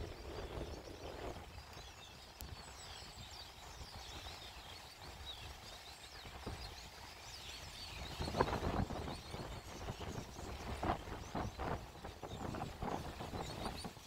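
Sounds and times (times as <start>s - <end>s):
low wind rumble: 0.0s - 5.4s, 7.7s - 14.0s
small birds chirping: 0.0s - 14.0s.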